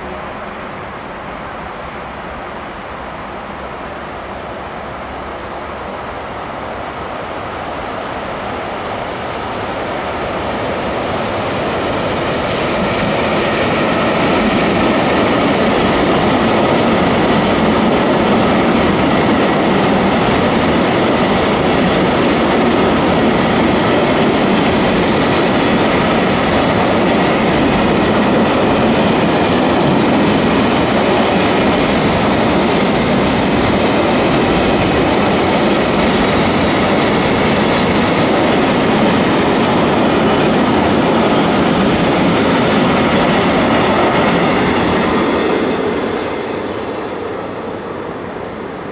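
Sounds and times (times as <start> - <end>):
freight train passing: 0.0 - 48.9.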